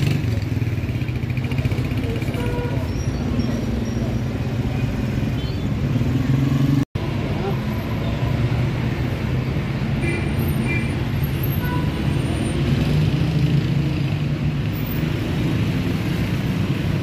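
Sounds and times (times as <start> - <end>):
city traffic hum: 0.0 - 17.0
road noise: 0.0 - 17.0.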